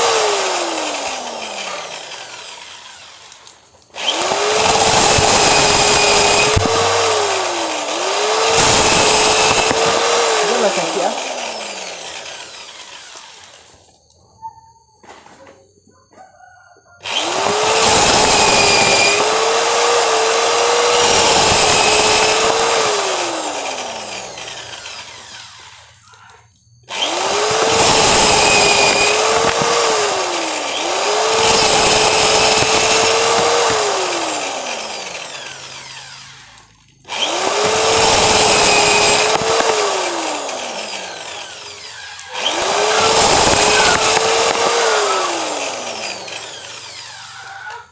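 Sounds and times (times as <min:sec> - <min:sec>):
drill motor whine: 0:00.0 - 0:14.1, 0:16.4 - 0:47.9.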